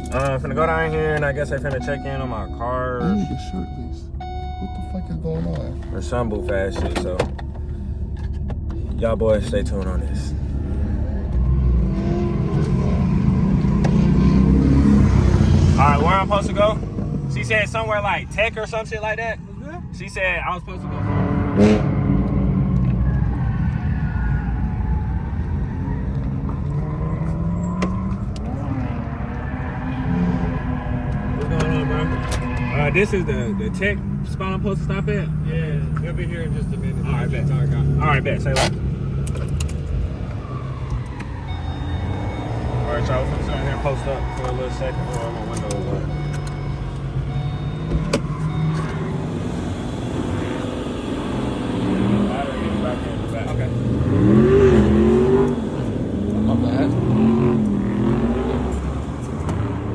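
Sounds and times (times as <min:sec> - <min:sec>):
car exhaust droning: 0:00.0 - 0:59.9.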